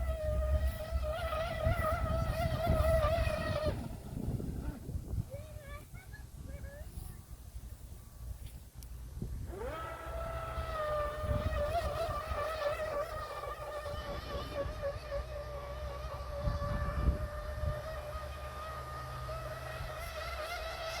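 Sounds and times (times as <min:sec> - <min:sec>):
electric motor whining: 0:00.0 - 0:07.3, 0:09.4 - 0:21.0.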